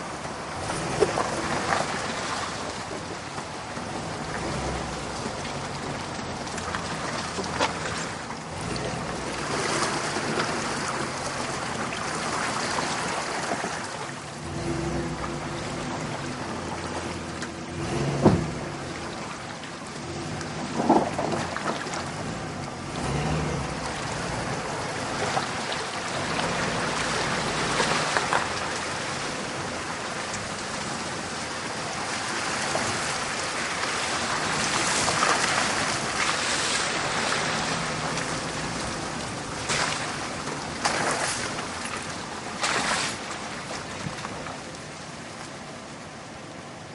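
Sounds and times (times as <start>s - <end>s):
engine running low: 0.0s - 46.9s
tyres splashing through puddles: 0.0s - 46.9s.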